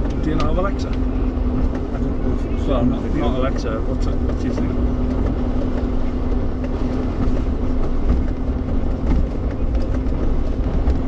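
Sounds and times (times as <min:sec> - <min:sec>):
car engine drone: 0:00.0 - 0:11.0
tyres and suspension rumbling: 0:00.0 - 0:11.0.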